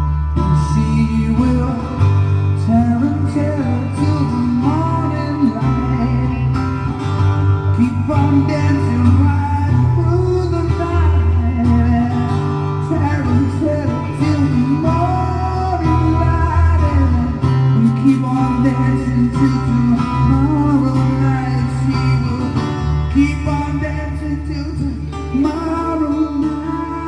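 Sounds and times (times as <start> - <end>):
guitar song on a record: 0.0 - 27.0.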